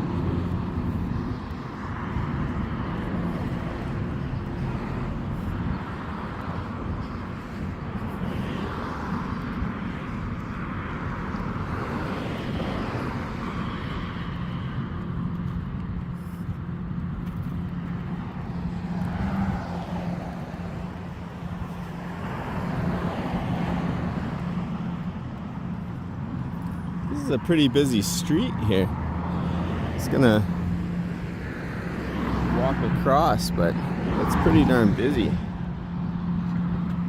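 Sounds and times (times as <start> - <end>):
low engine hum: 0.0 - 37.0
vehicles passing road noise: 0.0 - 37.0.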